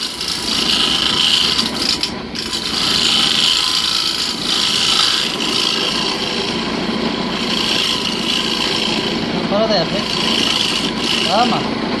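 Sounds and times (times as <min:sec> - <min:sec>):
rasping hiss of wood shavings: 0:00.0 - 0:11.8
wood lathe running: 0:00.0 - 0:12.0.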